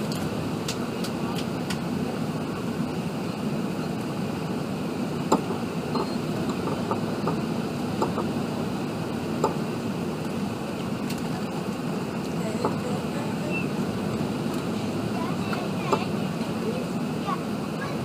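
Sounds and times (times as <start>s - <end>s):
aircraft cabin roar: 0.0s - 18.0s.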